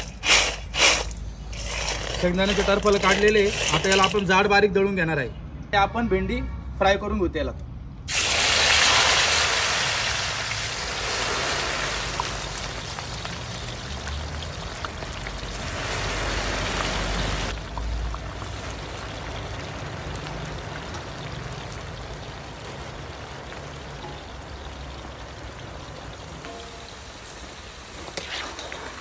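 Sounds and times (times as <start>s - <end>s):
okra sizzling in hot oil: 0.0s - 4.3s, 8.1s - 29.0s.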